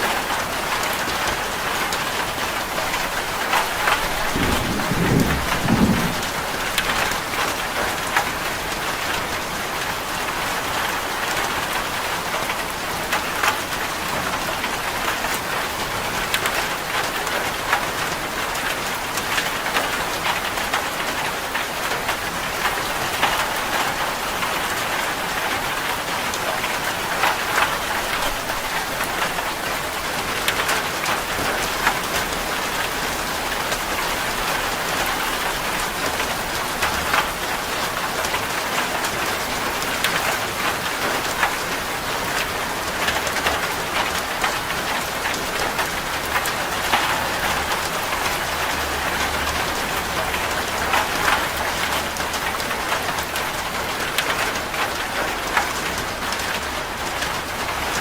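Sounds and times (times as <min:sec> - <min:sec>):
heavy rain on a metal roof: 0:00.0 - 0:58.0.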